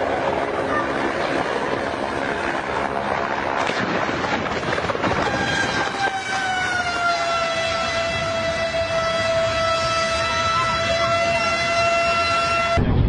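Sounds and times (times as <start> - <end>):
helicopter rushing noise: 0.0 - 13.0.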